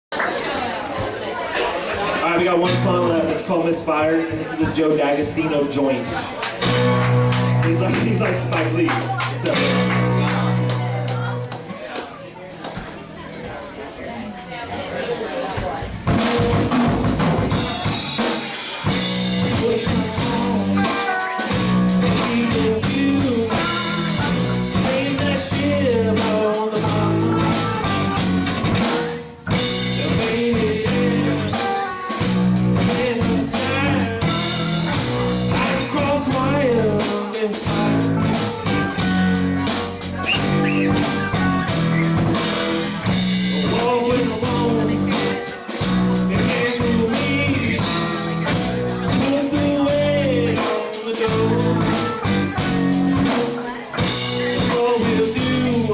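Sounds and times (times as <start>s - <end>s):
live rock band playing: 1.6s - 13.4s, 15.4s - 55.9s.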